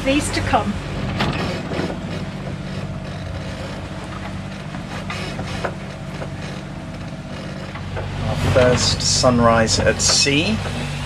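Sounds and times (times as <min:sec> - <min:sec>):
boat engine humming: 0:00.0 - 0:11.0
water rushing along hulls: 0:00.0 - 0:11.0.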